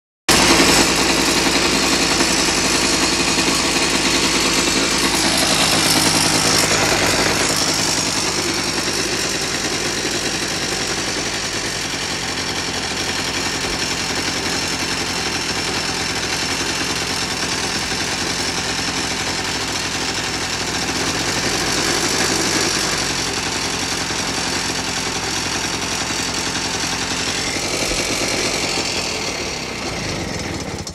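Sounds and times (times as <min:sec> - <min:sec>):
two-stroke engine running: 0:00.3 - 0:30.9.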